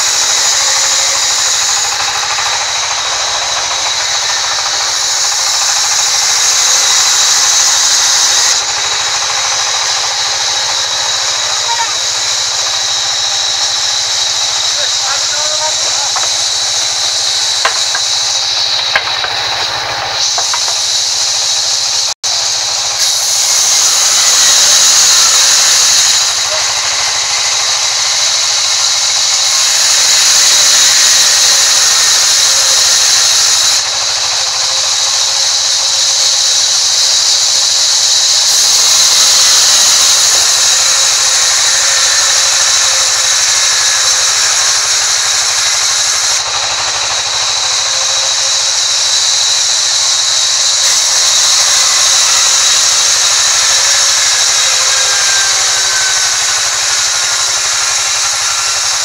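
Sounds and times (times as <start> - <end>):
band saw sawing timber: 0.0 - 59.0
machine drone: 0.0 - 59.0.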